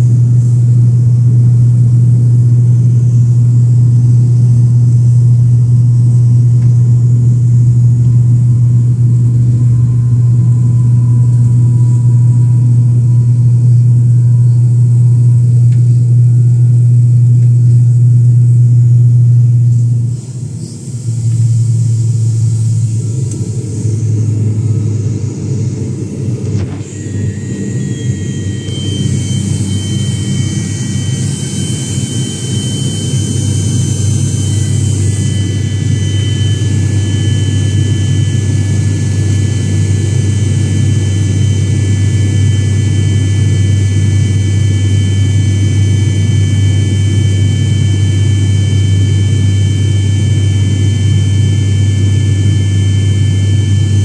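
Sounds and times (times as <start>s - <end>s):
aircraft engines droning: 0.0s - 54.0s
high engine whine: 0.0s - 54.0s.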